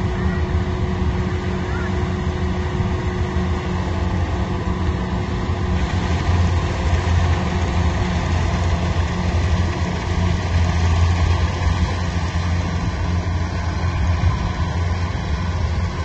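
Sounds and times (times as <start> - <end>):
heavy engine humming: 0.0 - 16.0.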